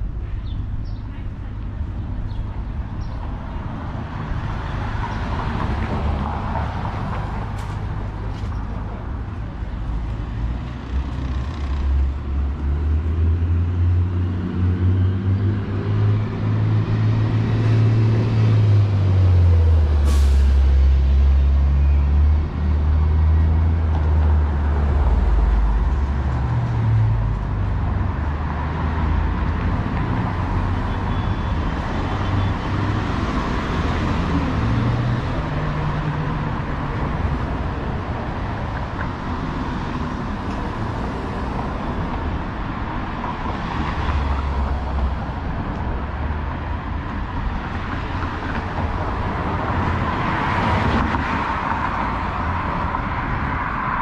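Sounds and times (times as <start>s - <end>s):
large vehicle low rumble: 0.0s - 54.0s
passing vehicles: 0.0s - 54.0s.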